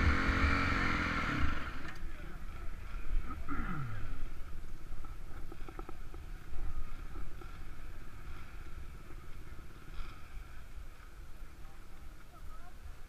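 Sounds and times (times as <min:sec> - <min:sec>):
dirt bike engines idling: 0:00.0 - 0:13.0.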